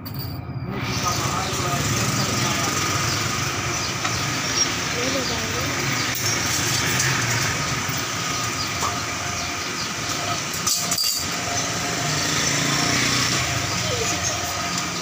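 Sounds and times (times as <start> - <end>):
mechanical drone: 0.0 - 15.0.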